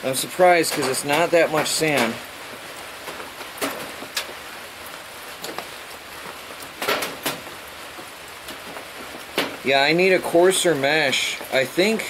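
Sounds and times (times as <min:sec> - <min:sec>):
light rain hissing: 0:00.0 - 0:12.0
sharp rain taps: 0:00.0 - 0:12.0.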